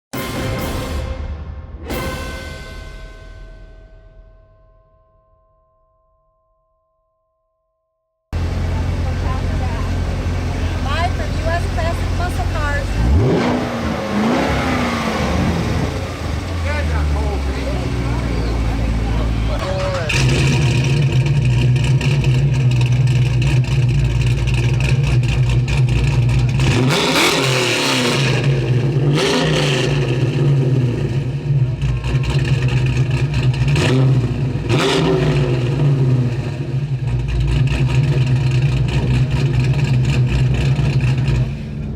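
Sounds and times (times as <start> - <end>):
car engine idling and revving: 8.3 - 41.9.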